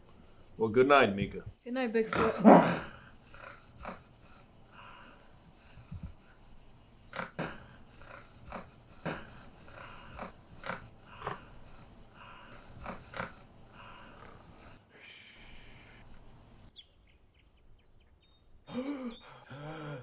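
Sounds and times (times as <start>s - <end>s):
crickets chirping: 0.0s - 16.8s, 18.5s - 20.0s.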